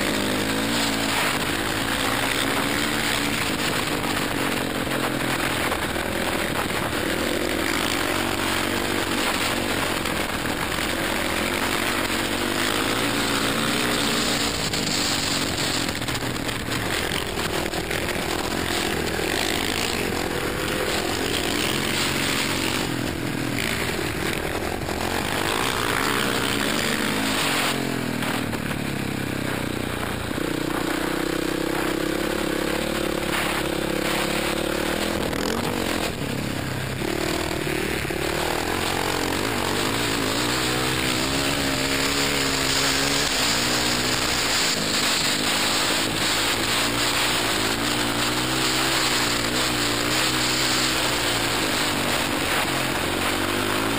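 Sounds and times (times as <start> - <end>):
racing motorcycle engine: 0.0 - 53.9.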